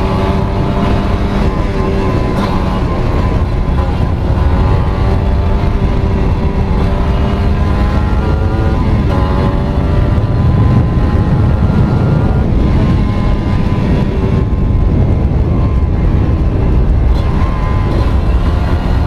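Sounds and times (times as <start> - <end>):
two-stroke motorcycle engine running: 0.0 - 19.0.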